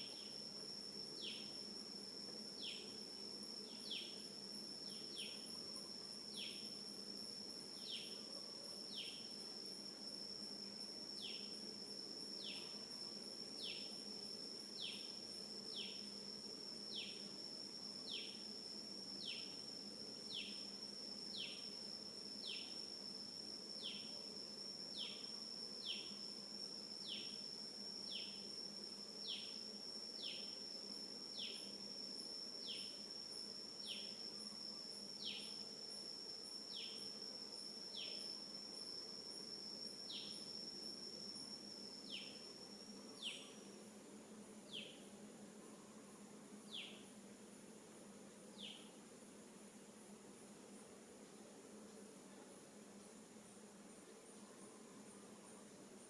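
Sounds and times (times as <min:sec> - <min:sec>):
high-pitched insect drone: 0:00.0 - 0:47.5, 0:48.5 - 0:50.4.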